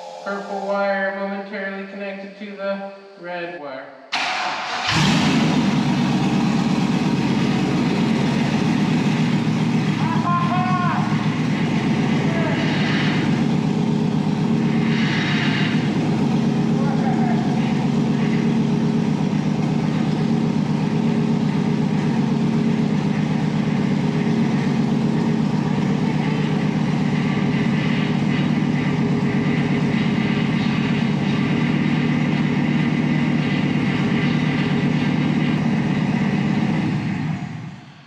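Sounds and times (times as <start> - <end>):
truck engine idling: 4.2 - 38.0.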